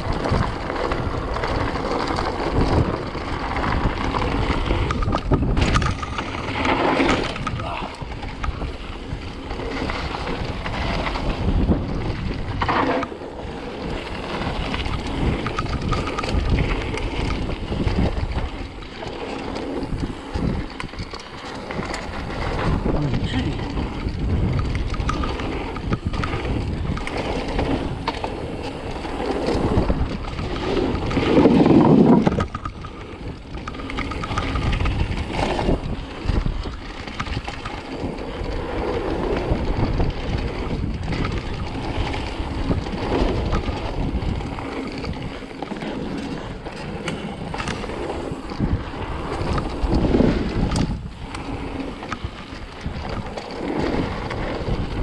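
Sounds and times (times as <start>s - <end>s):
bike tyre rumble: 0.0s - 55.0s
wind rushing over microphone: 0.0s - 55.0s.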